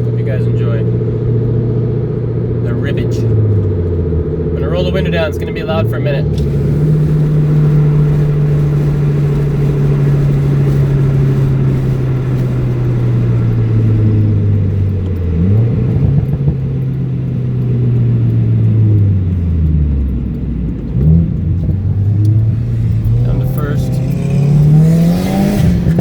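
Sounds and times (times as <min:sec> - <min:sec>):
car engine while driving: 0:00.0 - 0:26.0
road and wind noise: 0:00.0 - 0:26.0.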